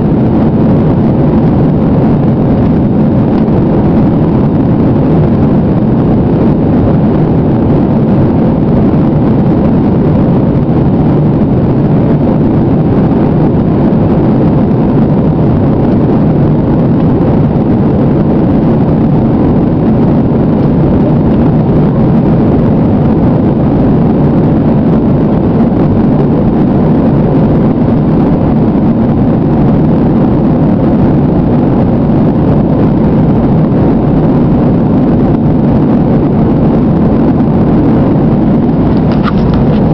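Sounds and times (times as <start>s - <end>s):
jet engine and airflow in cabin: 0.0s - 39.9s.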